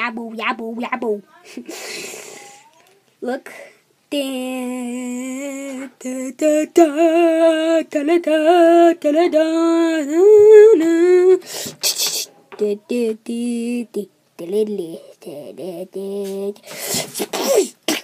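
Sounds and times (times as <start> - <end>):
child singing wordless tune: 0.0 - 1.4, 2.2 - 16.7.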